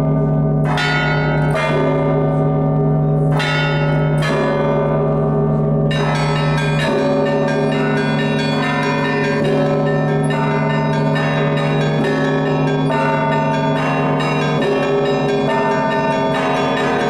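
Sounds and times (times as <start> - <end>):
deep large bell tone: 0.0 - 17.0
middle bells striking: 0.0 - 17.0.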